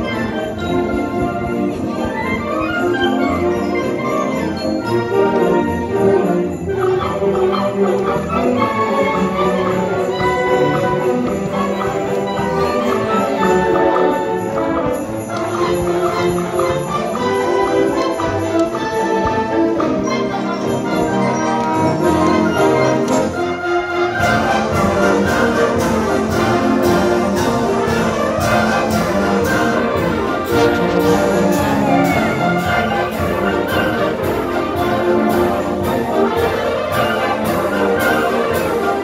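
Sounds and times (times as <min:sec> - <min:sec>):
concert band playing: 0:00.0 - 0:39.0
steady percussion beat: 0:00.0 - 0:39.0.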